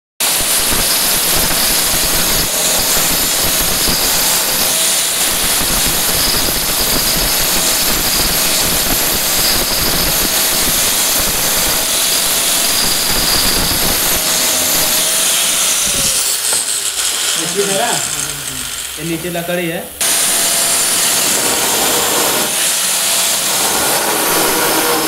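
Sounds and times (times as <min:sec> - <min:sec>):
angle grinder cutting stone: 0:00.2 - 0:25.0.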